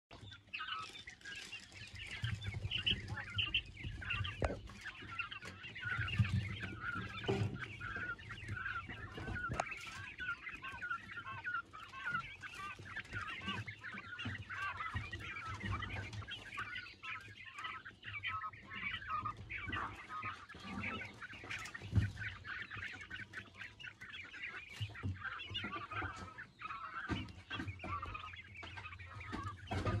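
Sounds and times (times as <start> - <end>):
quail chicks chirping and peeping: 0.1 - 30.0.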